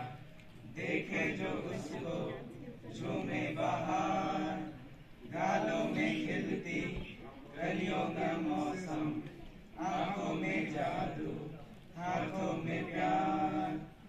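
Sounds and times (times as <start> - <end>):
boys singing in unison: 0.0 - 14.0.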